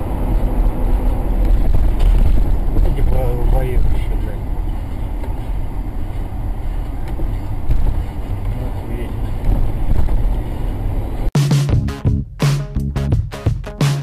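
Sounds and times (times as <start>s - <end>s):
vehicle rumble and road noise: 0.0s - 11.4s.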